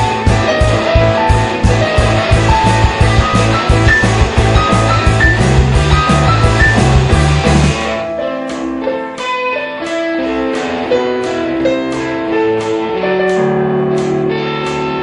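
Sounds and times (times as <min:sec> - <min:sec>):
digital piano: 0:00.0 - 0:15.0
electric guitar: 0:00.0 - 0:15.0.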